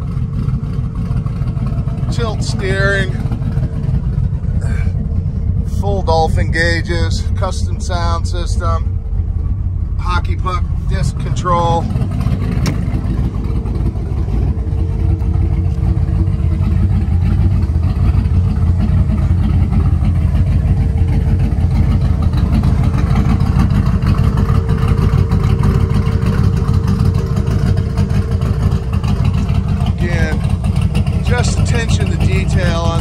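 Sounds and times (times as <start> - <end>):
engine deep rumble: 0.0 - 33.0.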